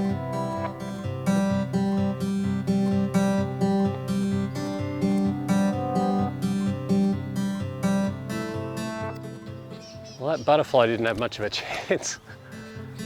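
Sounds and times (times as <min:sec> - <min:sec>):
acoustic guitar strumming chords: 0:00.0 - 0:10.7, 0:12.4 - 0:13.0.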